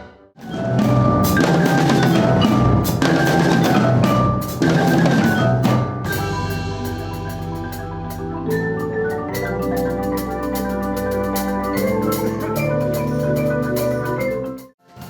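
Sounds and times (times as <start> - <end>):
held melodic notes: 0.0 - 14.8
heavy drumming: 0.4 - 15.0.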